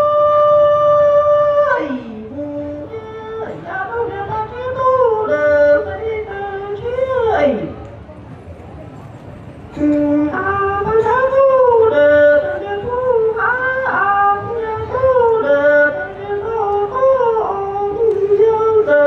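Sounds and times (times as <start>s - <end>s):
man singing into a microphone: 0.0s - 7.8s, 9.7s - 19.0s.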